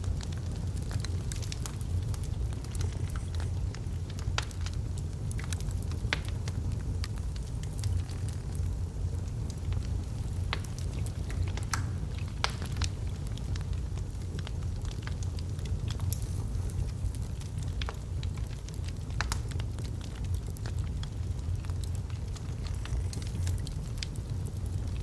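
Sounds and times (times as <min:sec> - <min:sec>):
low rumble of flame: 0:00.0 - 0:25.0
wood crackling and popping: 0:00.0 - 0:25.0.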